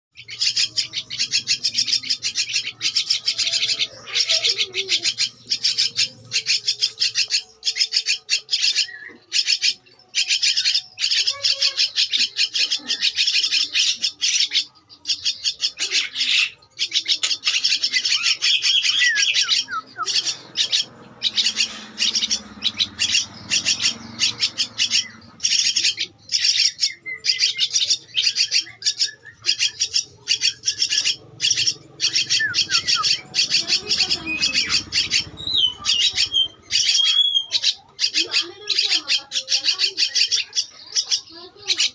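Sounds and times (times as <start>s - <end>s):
bird chicks calling: 0.1s - 41.9s.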